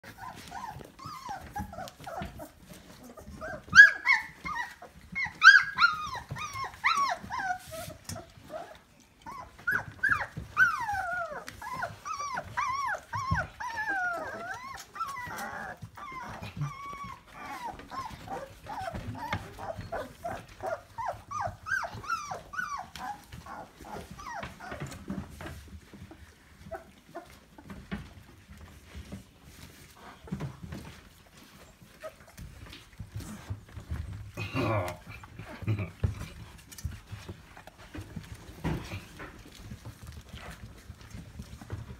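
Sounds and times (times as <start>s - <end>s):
puppies squeaking and whining: 0.0s - 41.9s.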